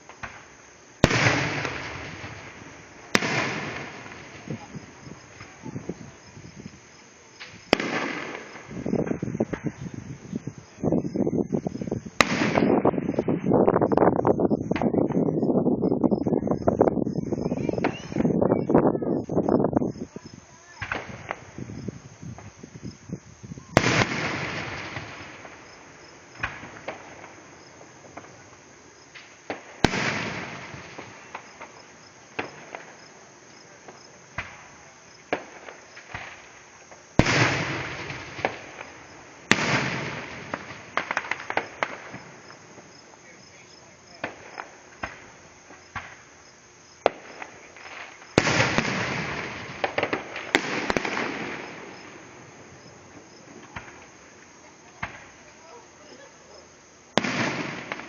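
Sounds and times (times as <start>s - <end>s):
firework pops and crackles: 0.0s - 15.2s, 15.8s - 18.5s, 19.2s - 58.0s
firework booms: 0.0s - 58.0s.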